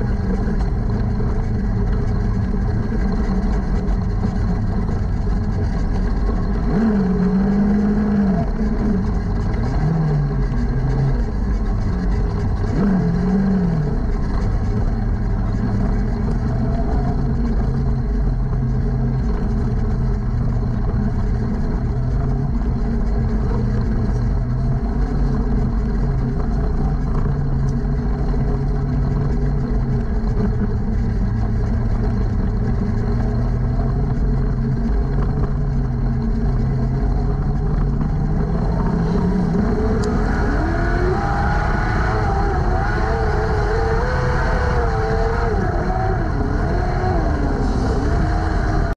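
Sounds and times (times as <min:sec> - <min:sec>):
race car engine at low speed: 0:00.0 - 0:48.9.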